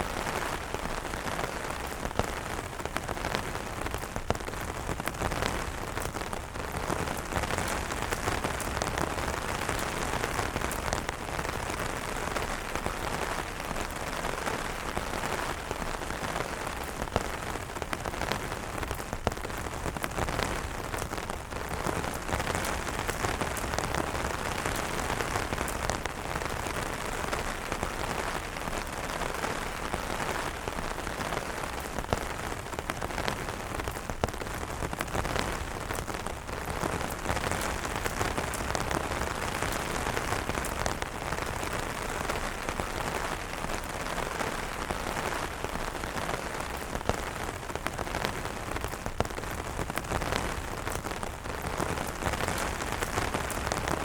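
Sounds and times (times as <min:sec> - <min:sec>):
rain falling on umbrellas: 0:00.0 - 0:54.0.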